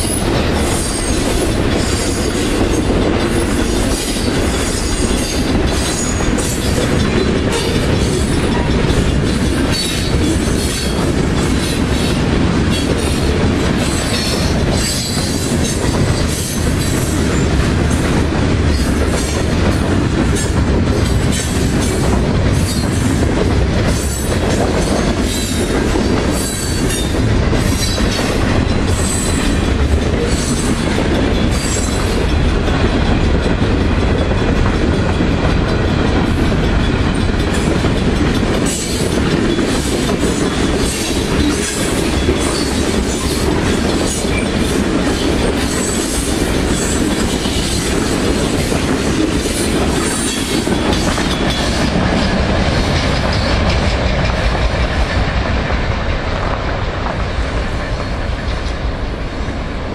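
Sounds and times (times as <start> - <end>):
freight train cars rumbling past: 0.0 - 59.9.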